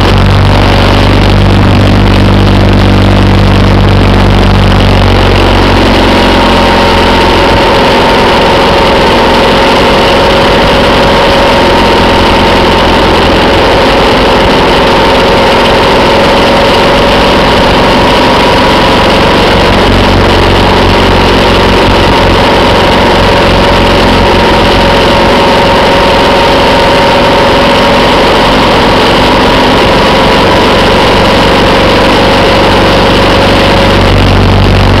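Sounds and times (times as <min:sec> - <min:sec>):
engine drone: 0:00.0 - 0:35.0
road noise: 0:00.0 - 0:35.0.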